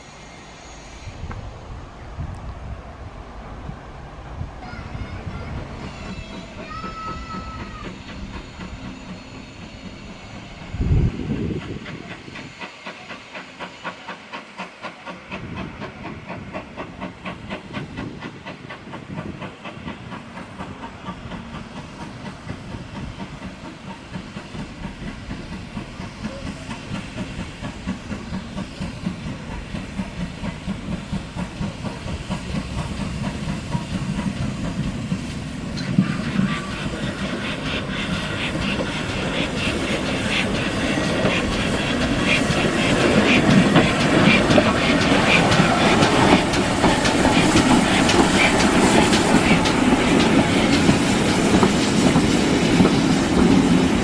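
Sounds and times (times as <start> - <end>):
steam locomotive exhaust beating: 3.4 - 54.0.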